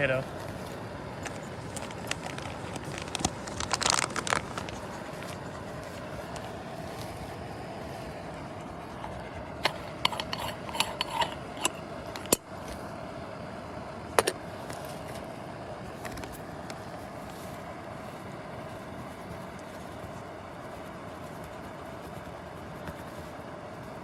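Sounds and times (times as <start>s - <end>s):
camping stove hissing: 0.0s - 24.0s.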